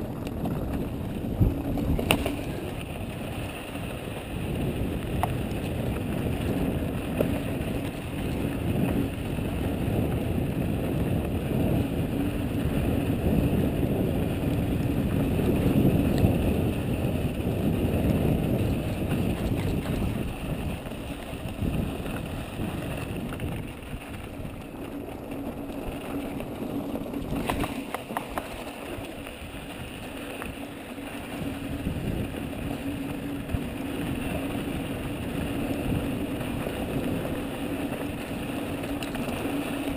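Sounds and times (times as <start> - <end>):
bike rattling over bumps: 0.0 - 39.9
bike tyres rumbling on gravelly dirt: 0.0 - 39.9.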